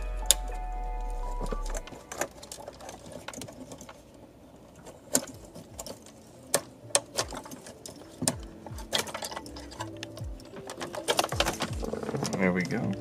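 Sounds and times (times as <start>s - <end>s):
plastic connectors clicking and rattling: 1.3s - 13.0s.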